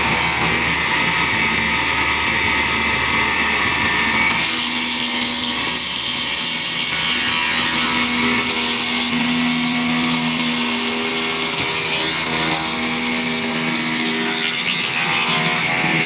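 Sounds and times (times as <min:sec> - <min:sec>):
wood router cutting wood: 0:00.0 - 0:16.0.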